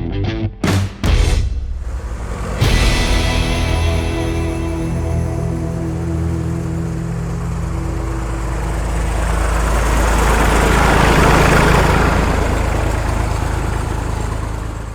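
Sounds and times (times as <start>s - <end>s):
machine humming: 0.6s - 14.7s
broad rush of noise: 1.4s - 14.9s.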